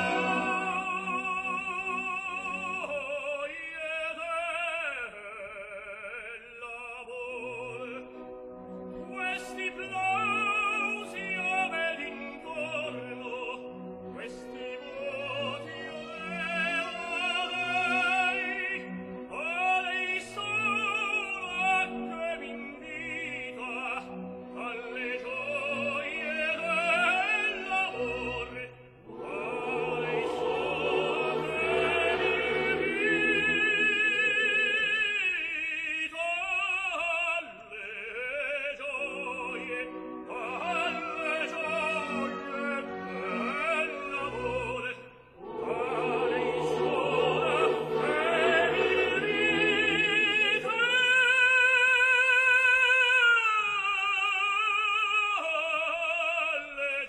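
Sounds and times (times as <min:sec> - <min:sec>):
orchestral accompaniment: 0:00.0 - 0:05.1, 0:07.1 - 0:35.7, 0:38.8 - 0:51.2
tenor singing operatic aria: 0:00.0 - 0:57.0.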